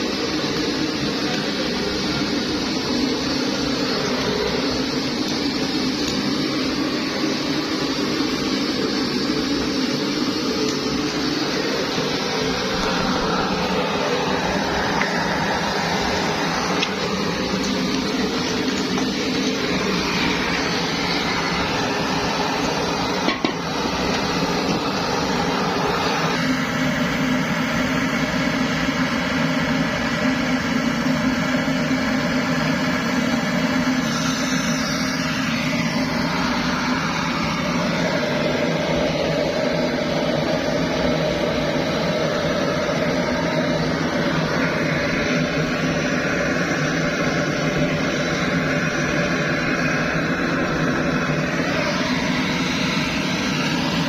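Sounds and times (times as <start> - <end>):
pressure stove hissing: 0.0 - 54.0.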